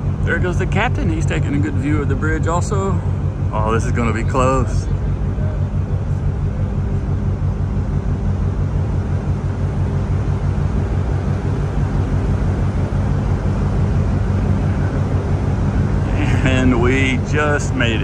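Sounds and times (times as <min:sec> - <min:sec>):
ship machinery droning: 0:00.0 - 0:18.0.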